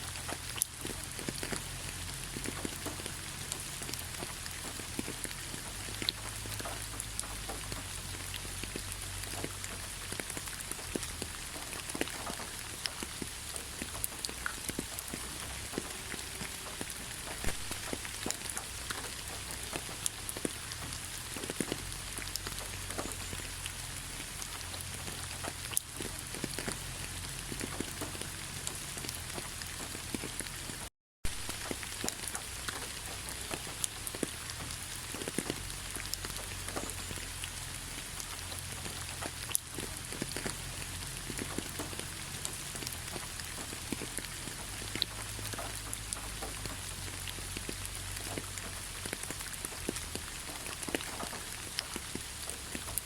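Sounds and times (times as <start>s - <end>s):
raindrops ticking on a surface: 0.0s - 53.0s
steady rain hiss: 0.0s - 53.0s.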